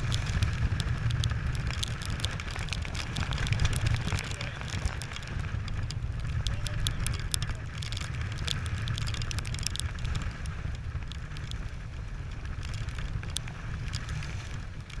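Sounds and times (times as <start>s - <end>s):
drops ticking on camera: 0.0s - 15.0s
wind buffeting microphone: 0.0s - 15.0s.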